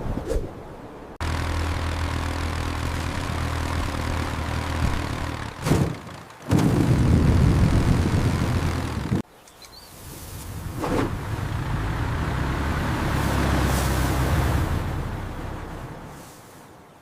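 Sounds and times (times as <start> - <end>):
engine humming: 1.0 - 9.2, 10.2 - 16.8.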